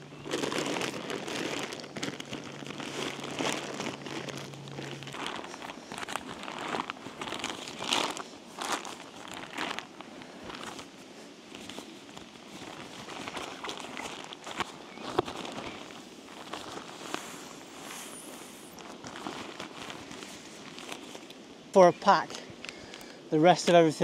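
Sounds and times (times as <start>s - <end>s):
tent fabric rustling and crinkling: 0.0s - 24.0s.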